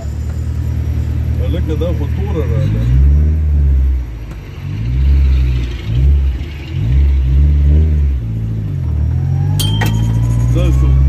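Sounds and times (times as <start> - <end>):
car engine revving in cabin: 0.0 - 11.0.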